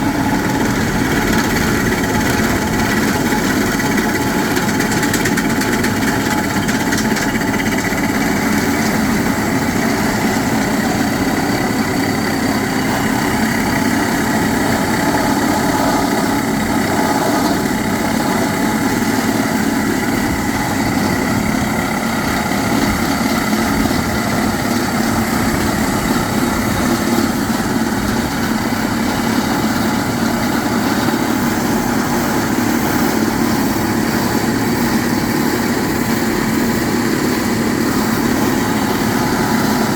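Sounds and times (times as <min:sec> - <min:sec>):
drilling rig machinery droning: 0:00.0 - 0:39.9.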